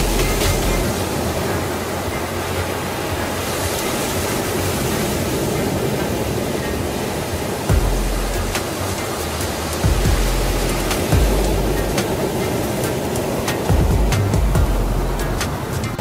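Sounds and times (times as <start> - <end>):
ambient background music: 0.0 - 16.0.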